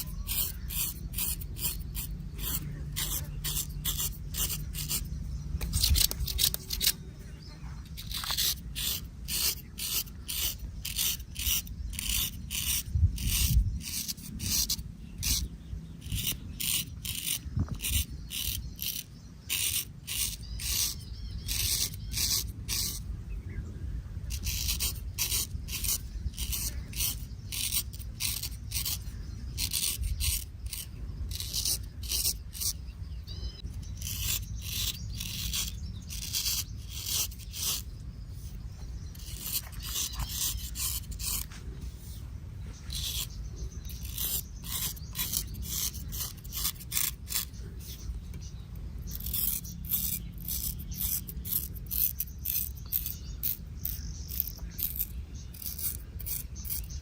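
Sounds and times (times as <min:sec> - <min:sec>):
straight razor scraping stubble: 0:00.0 - 0:23.1, 0:24.2 - 0:57.0.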